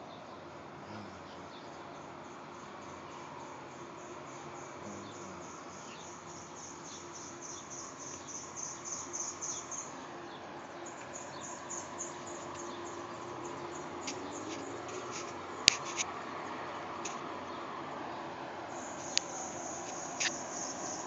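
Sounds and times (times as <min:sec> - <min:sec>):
faint steady hum: 0:00.0 - 0:21.0
insects chirping: 0:00.0 - 0:21.0.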